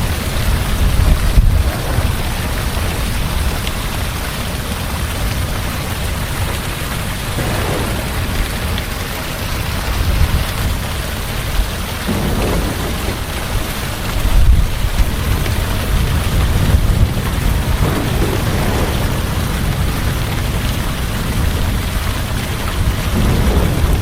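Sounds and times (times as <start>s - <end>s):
heavy rain falling: 0.0s - 24.0s
thunder rumble: 0.0s - 24.0s.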